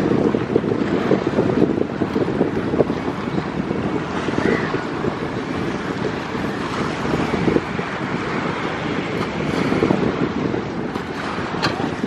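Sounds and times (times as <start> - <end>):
jet airliner rumble: 0.0 - 12.0
wind buffeting microphone: 0.0 - 12.0.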